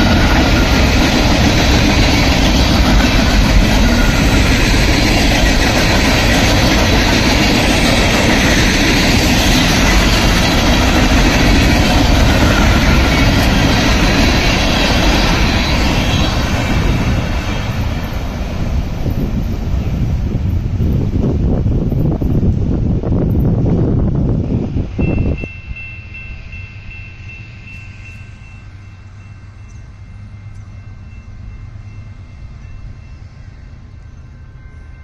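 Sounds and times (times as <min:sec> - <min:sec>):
train wheels rolling on rails: 0:00.0 - 0:35.0.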